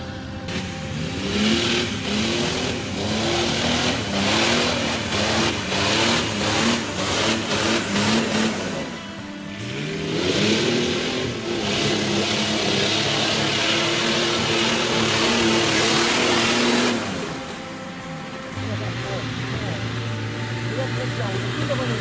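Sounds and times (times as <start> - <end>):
engine revving in bursts: 0.0 - 22.0.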